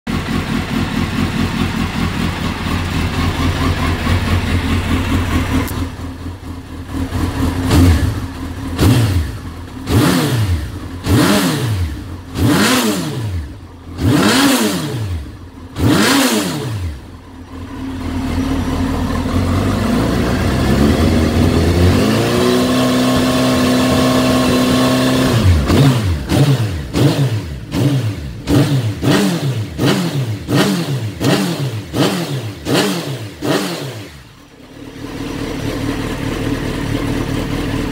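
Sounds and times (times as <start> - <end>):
motorcycle engine idling: 0.1 - 22.2, 23.2 - 37.9
motorcycle throttle blips: 0.1 - 37.9.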